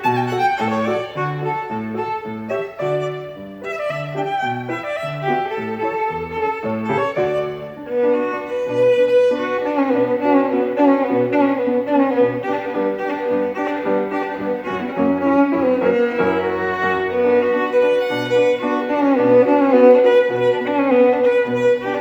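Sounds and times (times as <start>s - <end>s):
violin melody: 0.0s - 22.0s.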